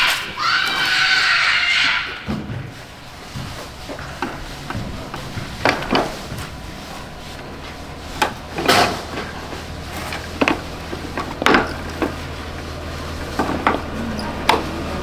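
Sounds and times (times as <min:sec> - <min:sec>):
hand tools and metal parts clattering: 0:00.0 - 0:15.0.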